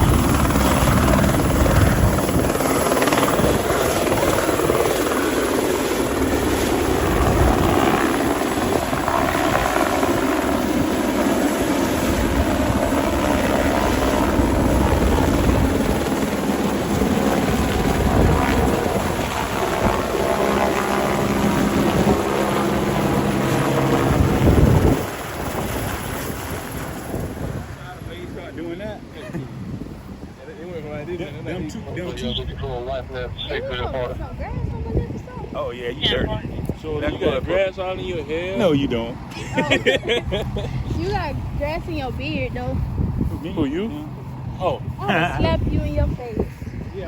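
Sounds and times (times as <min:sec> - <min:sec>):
helicopter rotor and engine drone: 0:00.0 - 0:47.0.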